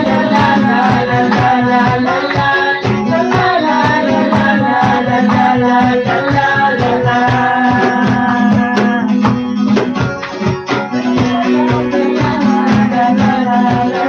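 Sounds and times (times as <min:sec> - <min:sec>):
voices singing la la la: 0:00.0 - 0:09.4, 0:11.0 - 0:14.0
band playing: 0:00.0 - 0:14.0
shaker-like percussion: 0:00.0 - 0:14.0.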